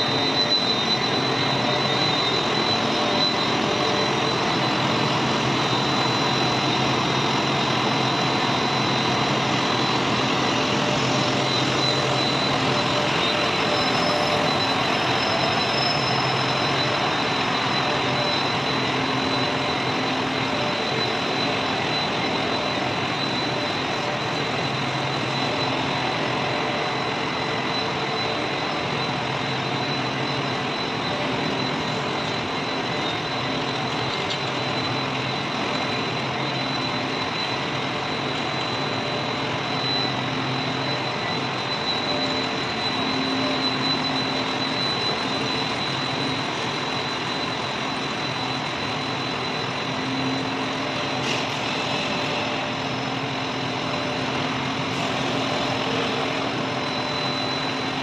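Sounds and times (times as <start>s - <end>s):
high whine: 0.0s - 58.0s
machine noise: 0.0s - 58.0s.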